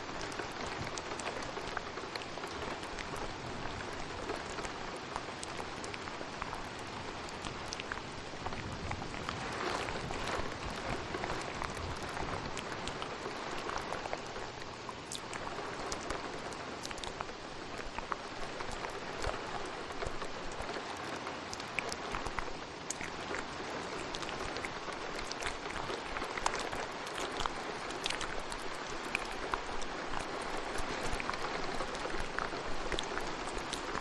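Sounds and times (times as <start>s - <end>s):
steady rain: 0.0s - 34.0s
wet mouth clicks: 0.2s - 34.0s.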